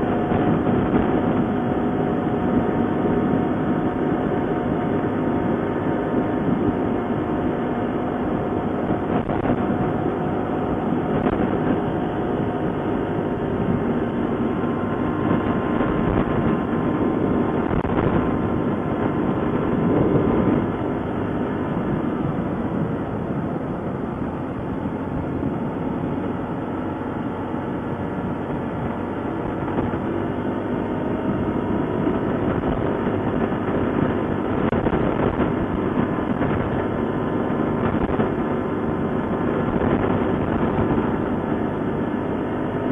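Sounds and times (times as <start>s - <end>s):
atv engine rumbling: 0.0s - 42.9s.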